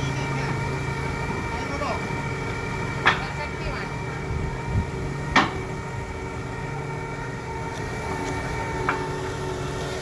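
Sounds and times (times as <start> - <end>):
heavy machine engine whining: 0.0 - 10.0.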